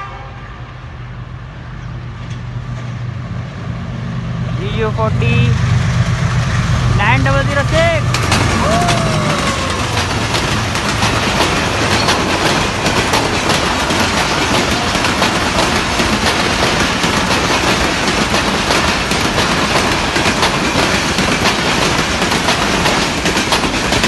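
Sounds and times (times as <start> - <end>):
train wheels rushing on rails: 0.0 - 24.0
clickety-clack over rail joints: 1.8 - 3.5, 4.6 - 24.0.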